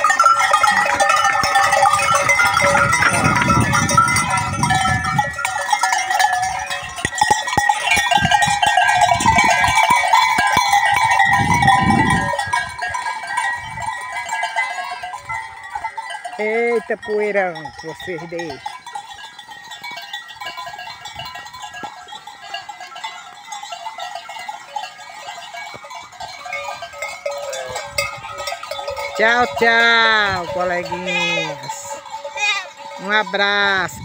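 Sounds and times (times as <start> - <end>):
goat bells clanking: 0.0 - 34.0.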